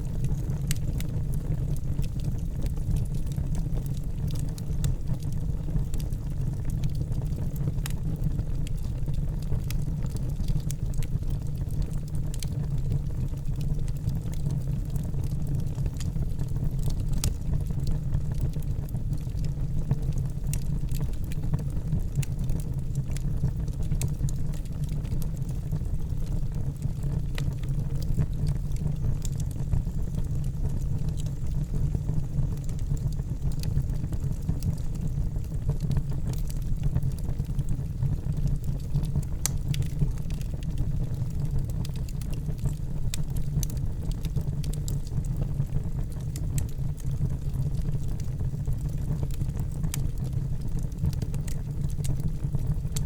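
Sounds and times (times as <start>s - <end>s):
fire crackling and popping: 0.0s - 53.0s
flames rumbling: 0.0s - 53.0s.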